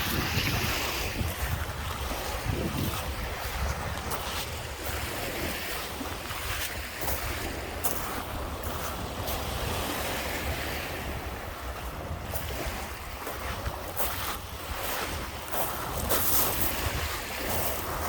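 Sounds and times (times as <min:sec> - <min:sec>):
waves washing onto beach: 0:00.0 - 0:18.0
wind buffeting microphone: 0:00.0 - 0:18.0.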